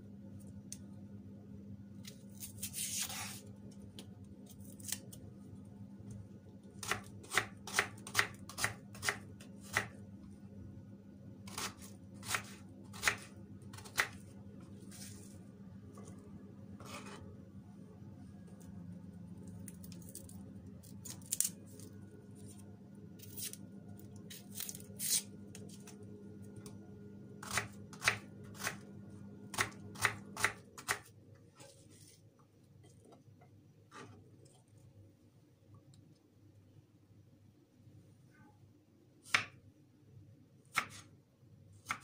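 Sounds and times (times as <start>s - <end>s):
low steady hum: 0.0s - 41.7s.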